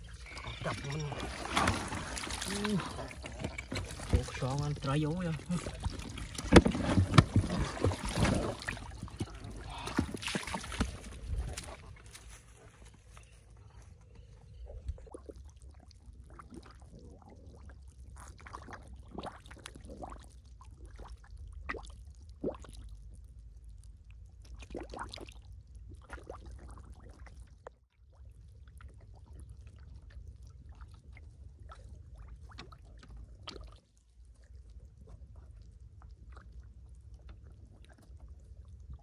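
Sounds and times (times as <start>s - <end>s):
water splashing and sloshing: 0.0s - 13.9s, 14.6s - 23.4s, 24.4s - 39.0s.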